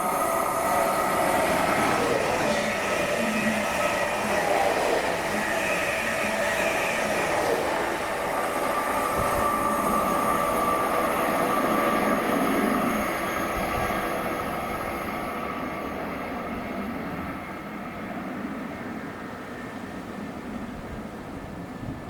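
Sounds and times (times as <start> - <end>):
train rail rumble: 0.0 - 22.0.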